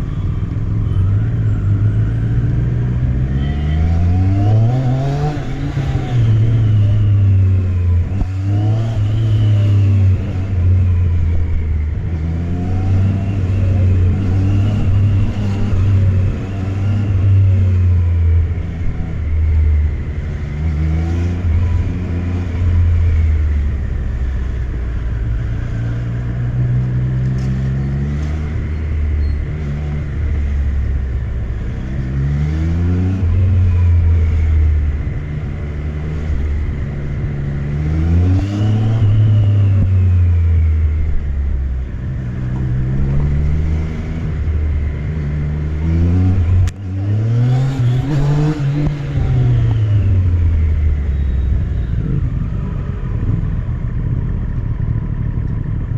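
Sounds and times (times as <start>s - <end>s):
motorcycle engine accelerating: 0.0s - 55.9s
wind and road noise: 0.0s - 55.9s.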